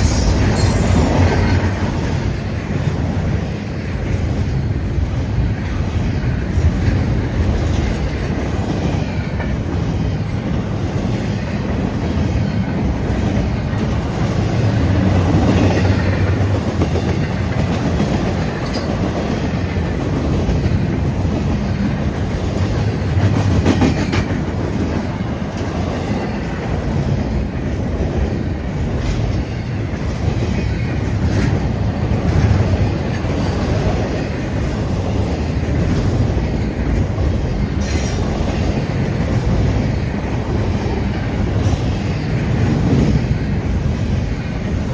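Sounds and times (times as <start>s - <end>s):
freight train rumbling past: 0.0s - 44.9s
wheels clacking over rail joints: 0.0s - 44.9s.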